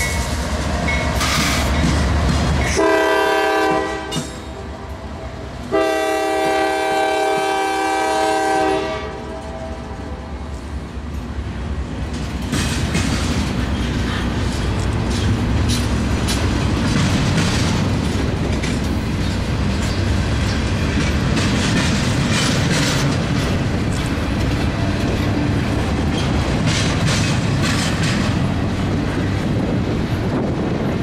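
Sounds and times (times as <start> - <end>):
steel wheels rumbling on rails: 0.0 - 31.0.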